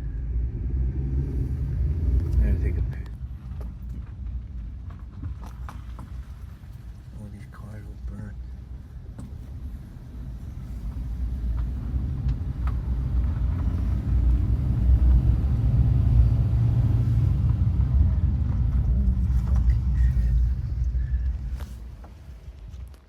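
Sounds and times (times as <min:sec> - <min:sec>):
vehicle passing with low rumble: 0:00.0 - 0:23.0.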